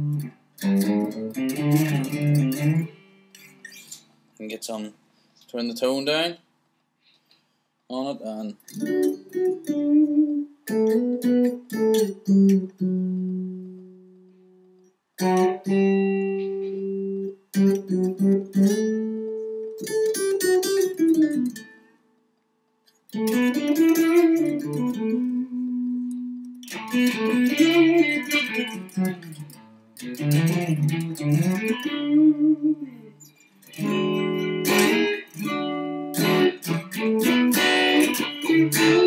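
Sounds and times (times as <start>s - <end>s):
electric guitar lead phrases: 0.0s - 4.7s, 8.2s - 21.8s, 23.1s - 39.0s.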